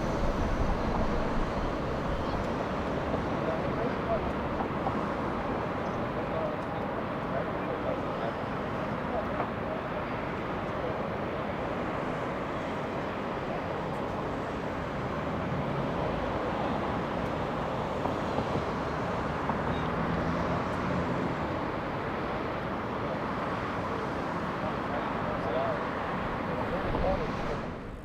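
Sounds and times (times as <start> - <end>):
jet airliner engines: 0.0 - 28.0.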